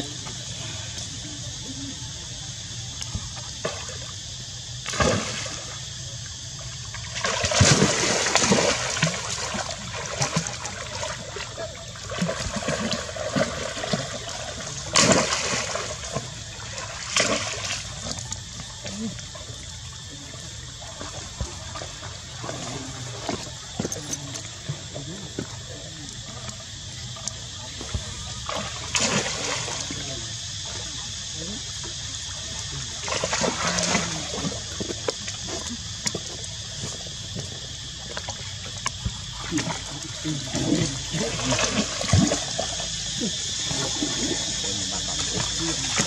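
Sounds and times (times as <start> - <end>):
water splashing in pool: 0.0 - 46.0.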